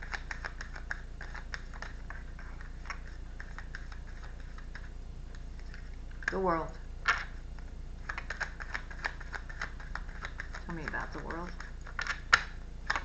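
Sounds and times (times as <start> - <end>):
cards being shuffled: 0.0 - 6.4, 7.0 - 13.0
steady low hum: 0.0 - 13.0.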